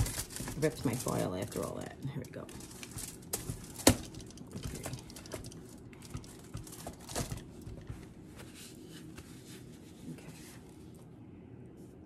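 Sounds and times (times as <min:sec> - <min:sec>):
foil rustling: 0:00.0 - 0:10.8.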